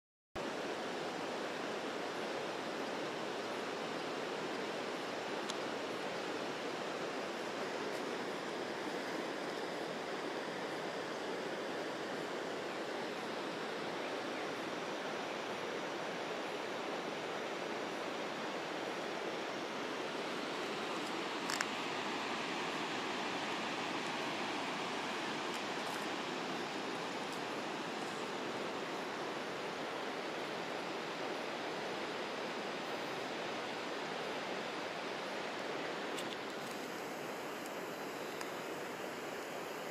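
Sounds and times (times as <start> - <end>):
rushing outdoor ambience: 0.4 - 39.9.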